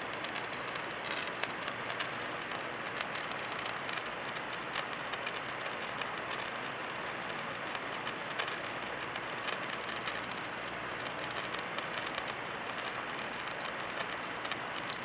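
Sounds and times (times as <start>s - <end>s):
firework hissing and crackling: 0.0s - 15.0s.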